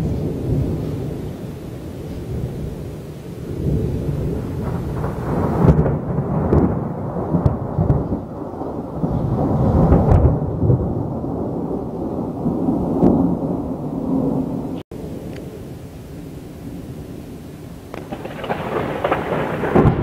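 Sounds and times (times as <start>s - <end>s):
low rolling thunder: 0.0s - 20.0s.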